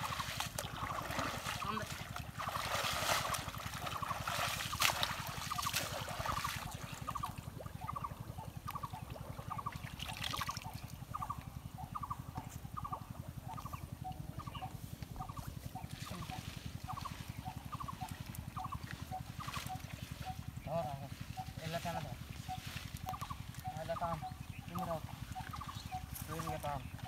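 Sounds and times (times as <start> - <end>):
steady low drone: 0.0 - 27.0
water splashing and sloshing: 0.0 - 27.0.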